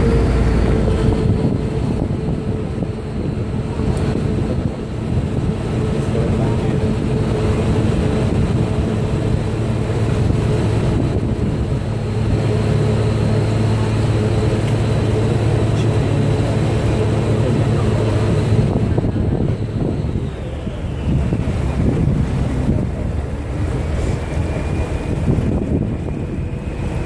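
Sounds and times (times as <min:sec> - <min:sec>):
boat diesel engine humming: 0:00.0 - 0:27.0
water rushing along hull: 0:00.0 - 0:27.0.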